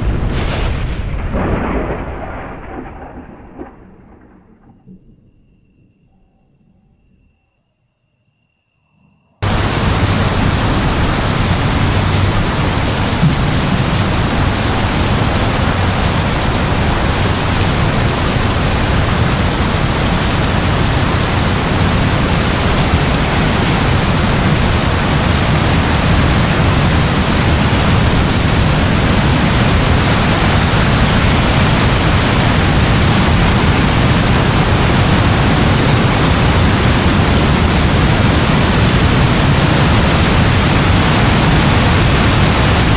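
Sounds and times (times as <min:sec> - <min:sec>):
heavy rain falling: 0:00.0 - 0:05.2, 0:09.4 - 0:42.9.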